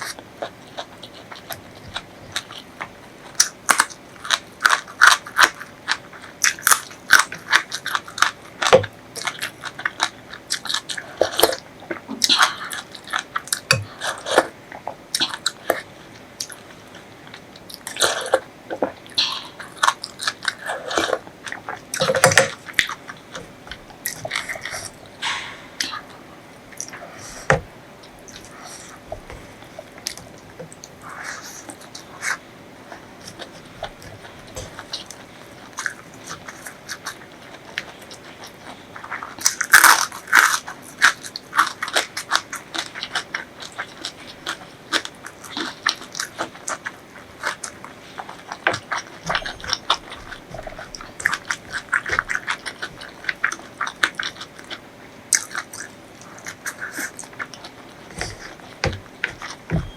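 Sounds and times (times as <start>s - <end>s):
biting and chewing: 0.0s - 59.9s.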